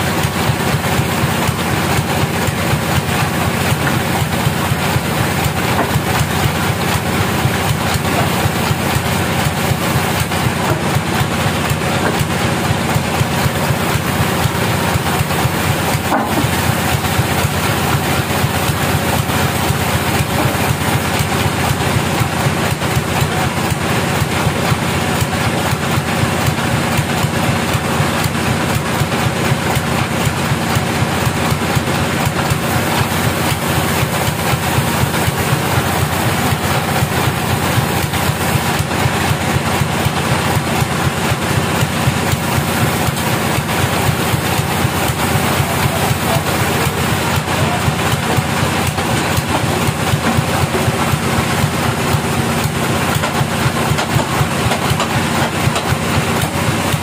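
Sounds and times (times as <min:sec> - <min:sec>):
sawmill power unit droning: 0:00.0 - 0:57.0.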